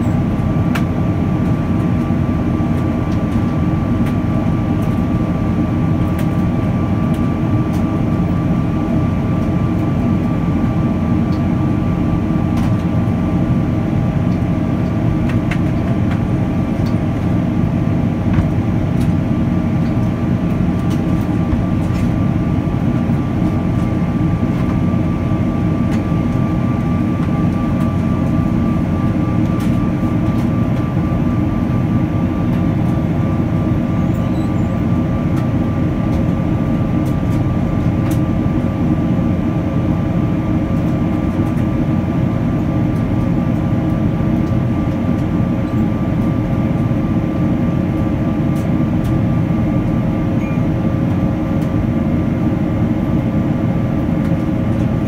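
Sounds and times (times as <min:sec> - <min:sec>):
deep cabin roar: 0:00.0 - 0:55.0
jet engine whine: 0:00.0 - 0:55.0.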